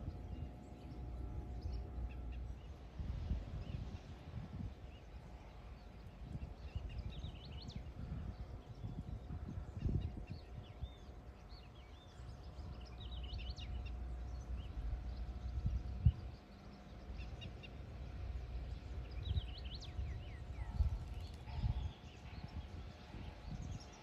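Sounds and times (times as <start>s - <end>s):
wind gusting against microphone: 0.0s - 17.3s, 17.9s - 24.0s.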